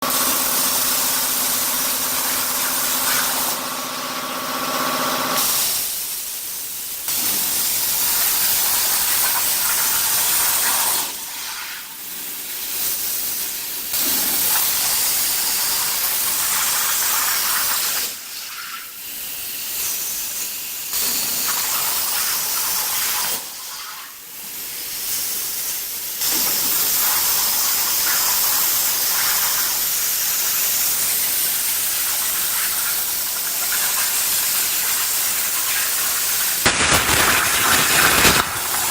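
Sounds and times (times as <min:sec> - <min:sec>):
plasma arc hissing: 0:00.0 - 0:03.6, 0:05.4 - 0:38.9.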